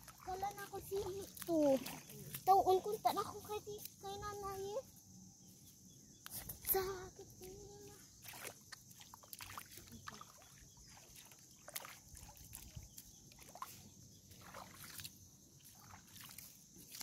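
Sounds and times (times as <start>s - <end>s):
soft splashes: 0.0s - 4.0s, 6.4s - 17.0s
footsteps wading through water: 0.0s - 4.6s, 6.2s - 17.0s.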